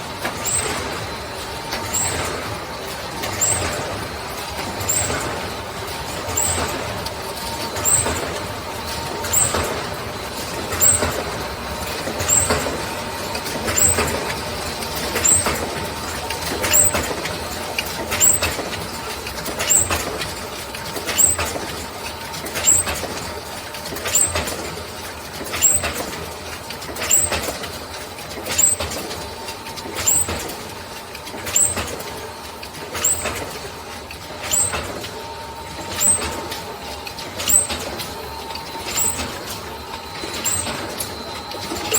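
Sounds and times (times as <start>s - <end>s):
machine clacking: 0.0s - 41.9s
mechanical hum: 0.0s - 41.9s.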